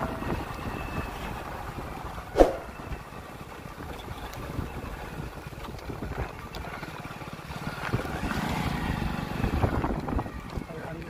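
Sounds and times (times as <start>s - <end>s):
motorcycle engine approaching: 0.0s - 11.0s
wind noise on microphone: 0.0s - 11.0s.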